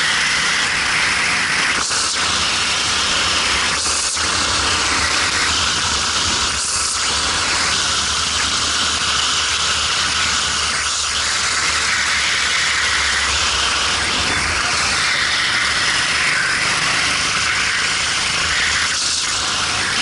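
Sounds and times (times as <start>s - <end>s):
kart engine running: 0.0s - 20.0s.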